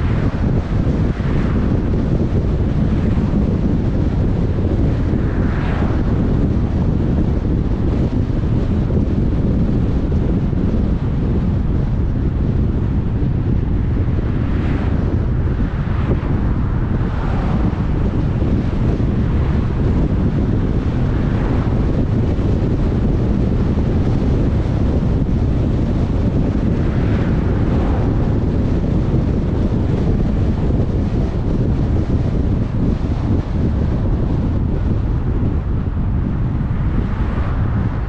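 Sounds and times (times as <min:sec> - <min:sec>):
car road and wind rumble: 0:00.0 - 0:38.0.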